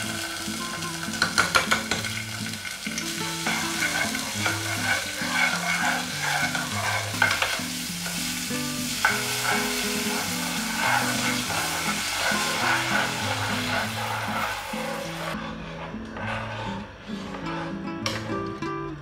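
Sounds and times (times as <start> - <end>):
curry paste sizzling in oil: 0.0 - 15.4
spatula scraping pan: 0.0 - 17.8.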